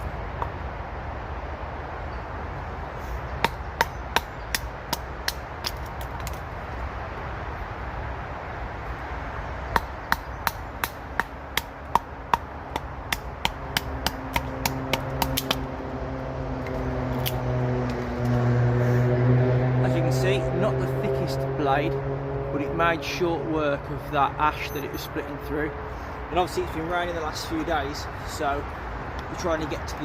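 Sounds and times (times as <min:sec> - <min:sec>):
hum of motorway traffic: 0:00.0 - 0:30.0
vehicle engine drone: 0:00.0 - 0:30.0.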